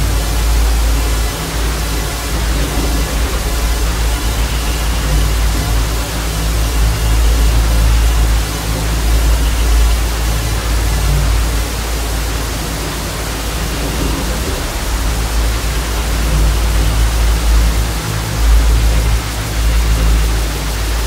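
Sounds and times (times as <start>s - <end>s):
deep low drone: 0.0s - 21.0s
television static hiss: 0.0s - 21.0s.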